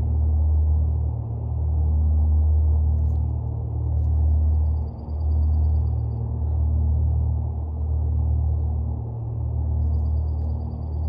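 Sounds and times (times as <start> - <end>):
faint hum: 0.0 - 11.0
low rumble: 0.0 - 11.0.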